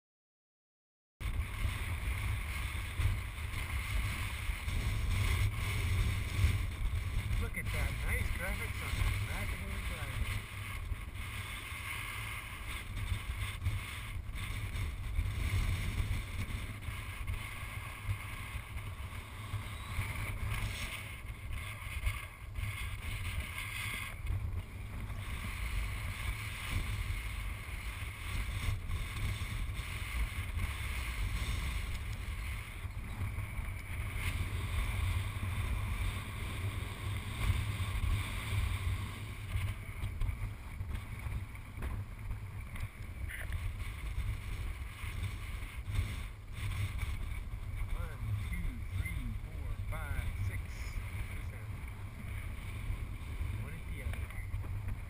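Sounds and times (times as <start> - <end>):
wind buffeting microphone: 1.2 - 55.0.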